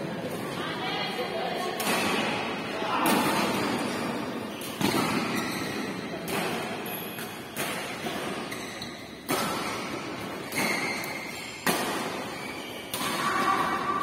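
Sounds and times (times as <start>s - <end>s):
badminton racket hitting shuttlecock: 1.8s - 14.0s.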